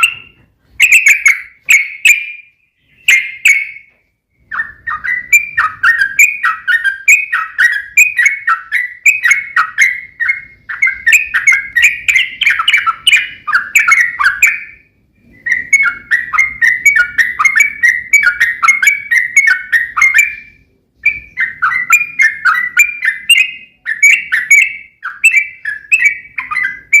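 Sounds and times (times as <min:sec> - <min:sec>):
bulbul chattering song: 0:00.0 - 0:27.0.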